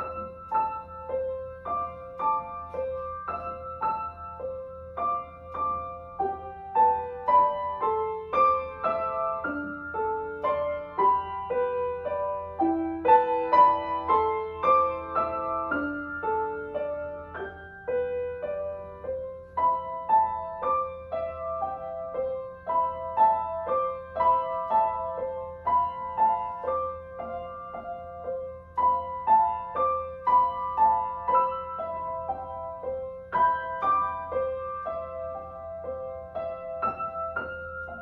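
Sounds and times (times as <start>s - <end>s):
upright piano melody: 0.0s - 38.0s.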